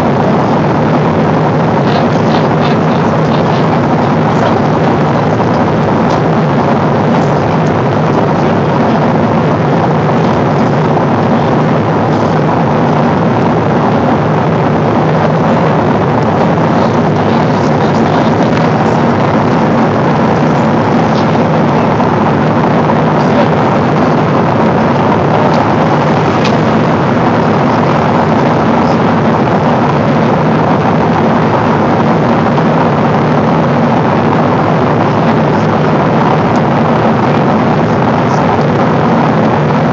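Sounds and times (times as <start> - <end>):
airflow rush in aircraft cabin: 0.0 - 39.9
faint low hum: 0.0 - 39.9
jet engine drone: 0.0 - 39.9.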